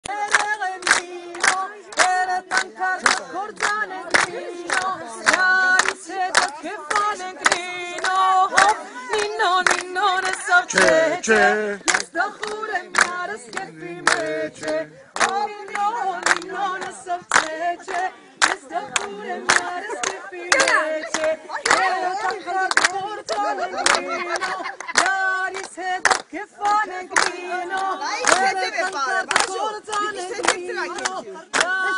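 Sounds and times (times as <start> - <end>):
lower voices singing: 0.0 - 31.9
people clapping along: 0.0 - 31.9
woman singing: 0.0 - 31.9.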